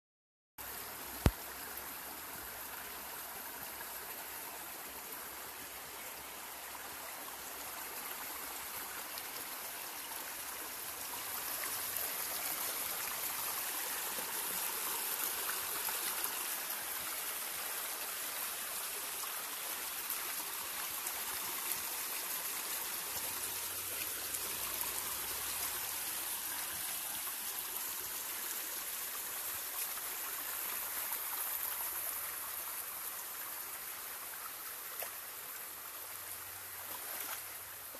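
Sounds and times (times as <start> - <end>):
creek trickling: 0.6 - 37.9.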